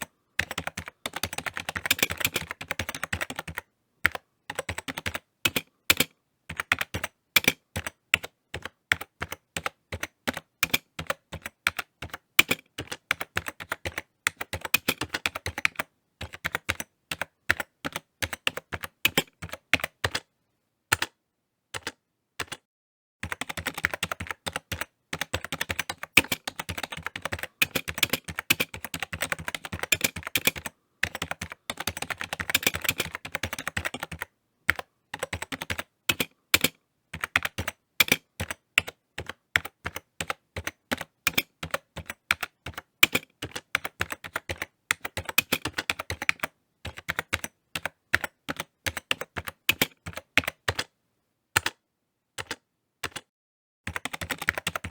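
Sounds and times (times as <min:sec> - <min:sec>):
typing on keyboard: 0:00.0 - 0:20.3, 0:20.9 - 0:21.2, 0:21.8 - 0:50.9, 0:51.6 - 0:51.8, 0:52.4 - 0:53.3, 0:53.9 - 0:54.9.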